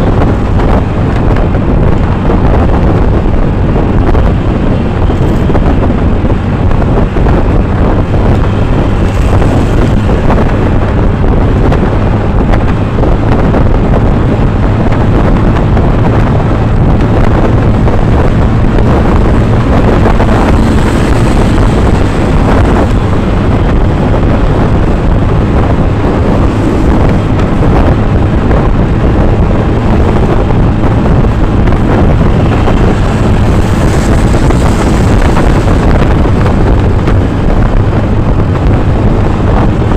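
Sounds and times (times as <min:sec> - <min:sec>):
vehicle engine running: 0:00.0 - 0:39.9
wind noise on microphone: 0:00.0 - 0:39.9.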